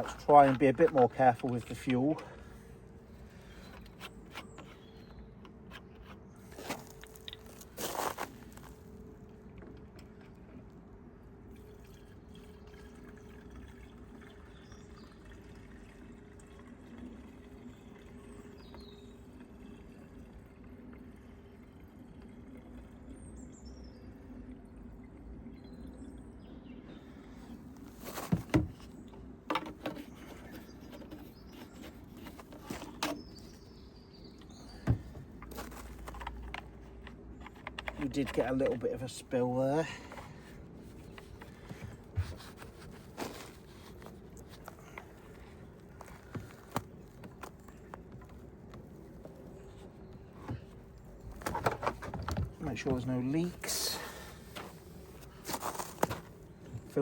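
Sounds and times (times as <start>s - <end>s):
faint birdsong: 0.0s - 9.0s, 10.0s - 57.0s.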